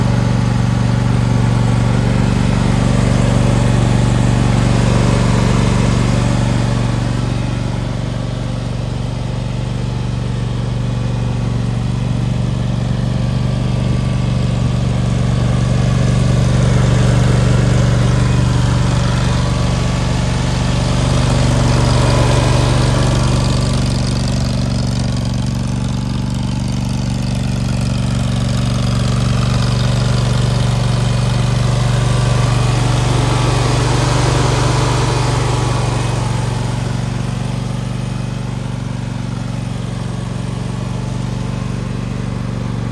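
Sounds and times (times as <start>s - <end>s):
lawn mower engine droning: 0.0s - 42.9s.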